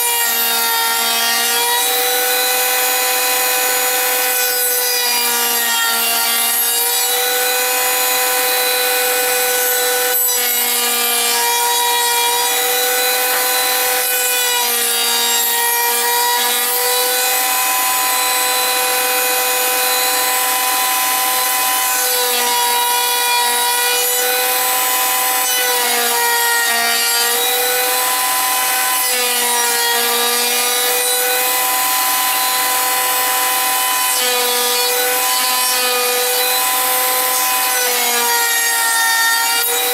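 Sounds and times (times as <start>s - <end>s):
power tool motor whine: 0.0s - 39.9s.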